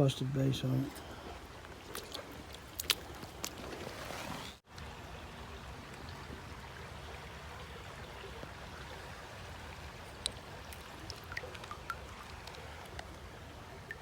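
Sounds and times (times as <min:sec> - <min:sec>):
creek water trickling: 0:00.0 - 0:14.0.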